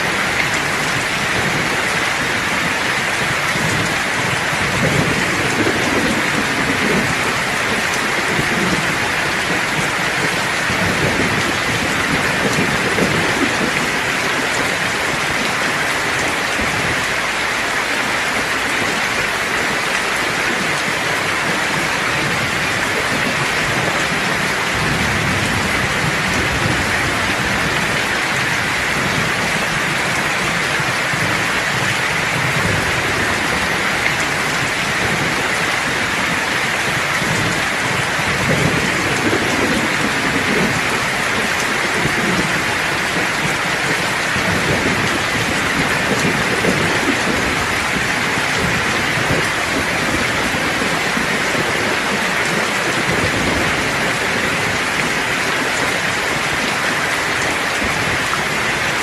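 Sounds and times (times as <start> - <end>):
low rolling thunder: 0.0 - 58.8
steady rain falling: 0.0 - 59.0.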